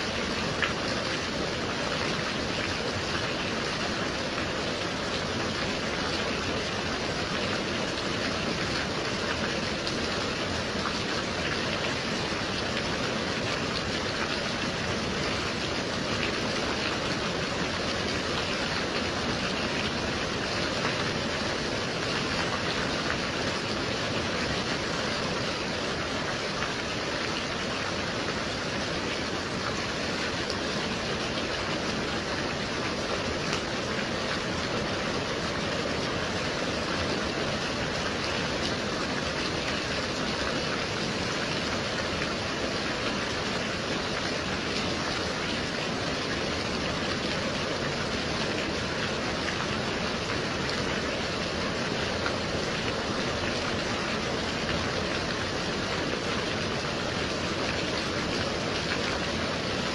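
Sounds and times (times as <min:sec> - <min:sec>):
steady gentle rain: 0:00.0 - 0:59.9.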